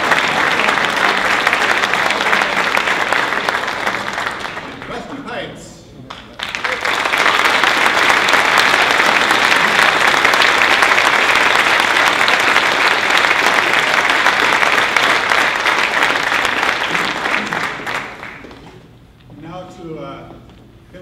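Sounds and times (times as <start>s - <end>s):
crowd applauding: 0.0s - 5.2s, 6.1s - 18.7s.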